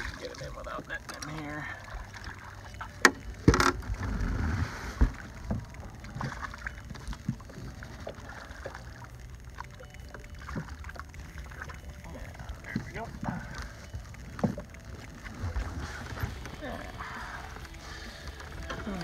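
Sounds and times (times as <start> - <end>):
water splashing: 0.0 - 19.0.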